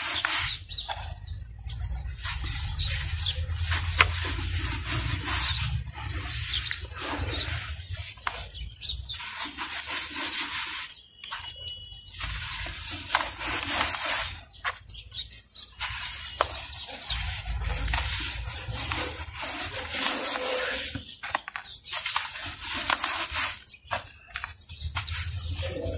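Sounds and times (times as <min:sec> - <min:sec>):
hands sifting dry powder: 0:00.0 - 0:25.9.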